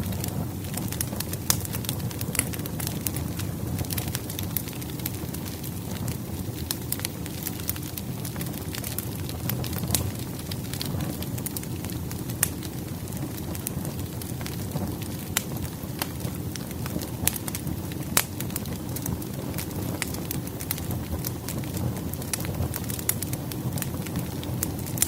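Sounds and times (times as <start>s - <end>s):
fire crackling and popping: 0.0s - 25.0s
firewood burning: 0.0s - 25.0s.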